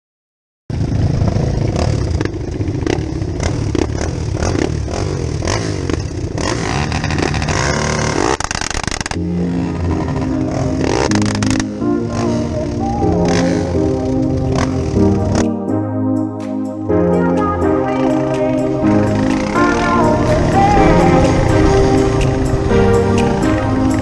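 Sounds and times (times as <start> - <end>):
off-road vehicle engine running: 0.7 - 15.4, 18.7 - 24.0.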